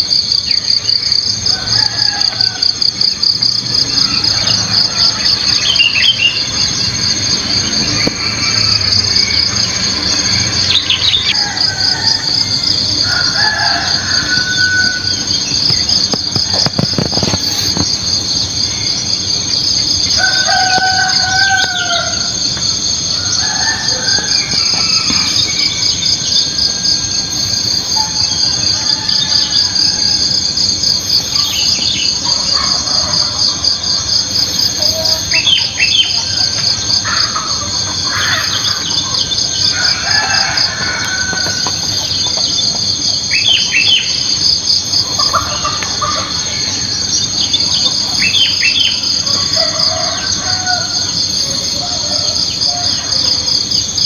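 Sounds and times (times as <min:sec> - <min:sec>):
high-pitched insect chorus: 0:00.0 - 0:54.0
rooster crowing: 0:00.6 - 0:15.8, 0:19.6 - 0:54.0.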